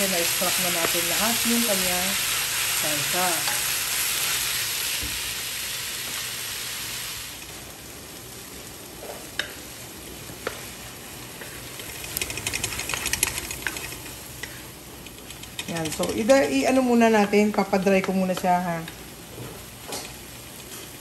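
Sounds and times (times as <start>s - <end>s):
food sizzling in a wok: 0.0s - 15.0s, 16.2s - 21.0s.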